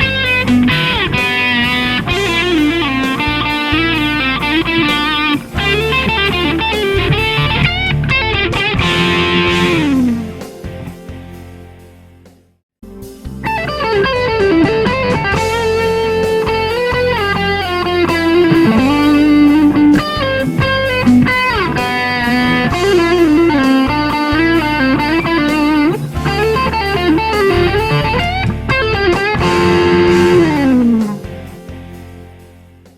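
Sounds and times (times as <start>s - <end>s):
electric guitar lead melody: 0.0s - 12.2s, 12.8s - 32.9s
low accompaniment: 0.0s - 32.9s.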